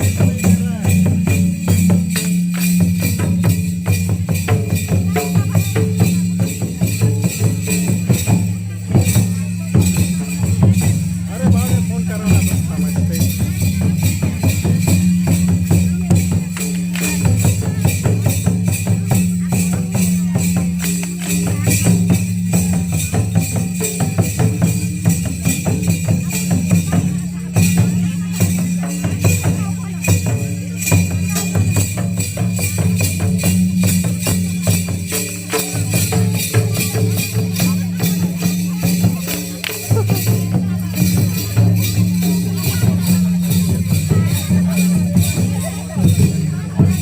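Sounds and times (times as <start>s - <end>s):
fast drum beat: 0.0s - 47.0s
jingling percussion: 0.0s - 47.0s.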